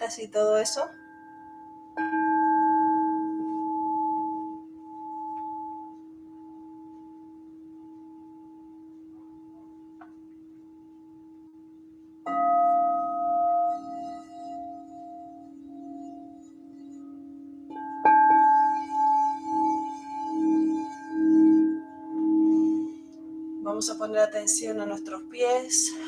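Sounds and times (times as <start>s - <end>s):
high singing bowl ringing: 0.0s - 26.0s
low singing bowl ringing: 0.0s - 26.0s.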